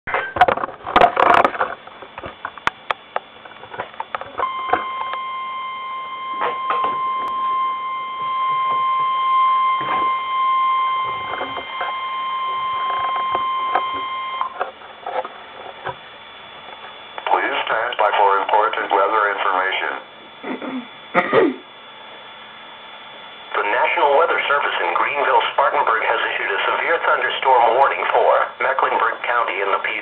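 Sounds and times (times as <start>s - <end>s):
high steady alarm beep: 2.5s - 30.0s.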